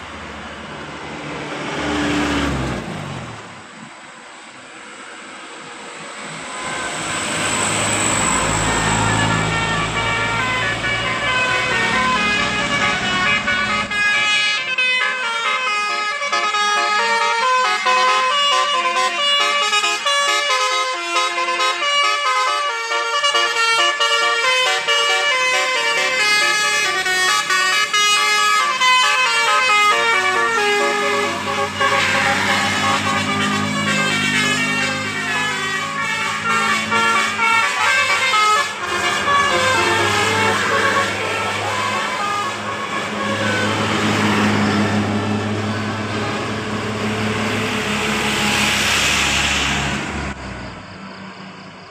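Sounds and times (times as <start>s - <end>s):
vehicle engine noise: 0.0s - 20.1s, 23.2s - 51.9s
bus horn playing melody: 6.4s - 50.0s.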